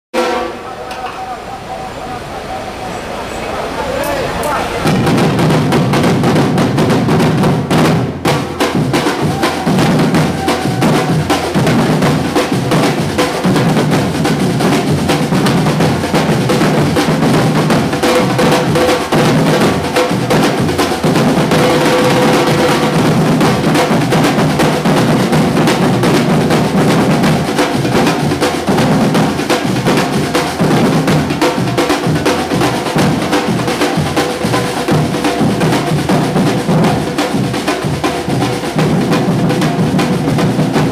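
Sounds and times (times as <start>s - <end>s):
percussion group drumming: 0.1s - 40.9s.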